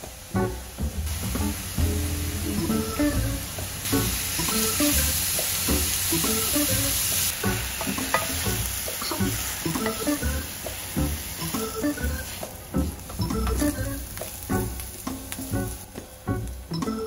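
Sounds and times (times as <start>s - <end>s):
food sizzling in a frying pan: 0.1s - 16.9s.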